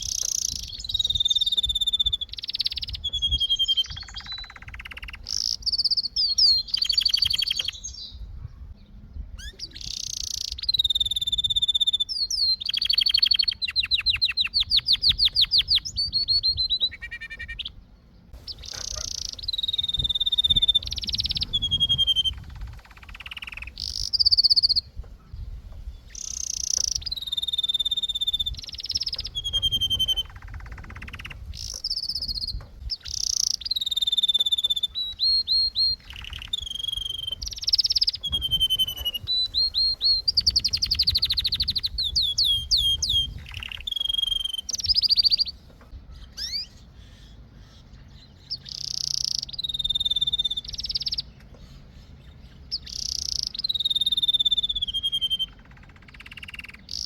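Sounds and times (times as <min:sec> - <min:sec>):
canary singing: 0:00.0 - 0:08.2, 0:09.4 - 0:57.0.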